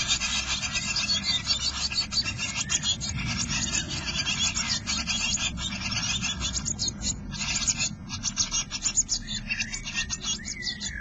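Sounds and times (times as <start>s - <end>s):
nestlings begging calls: 0.0s - 11.0s.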